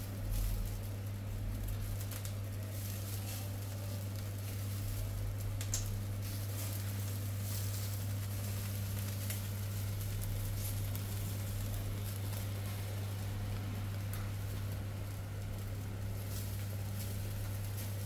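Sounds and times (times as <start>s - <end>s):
chickens sizzling on rotisserie: 0.0s - 18.0s
faint crackles and pops: 0.0s - 18.0s
steady low hum: 0.0s - 18.0s.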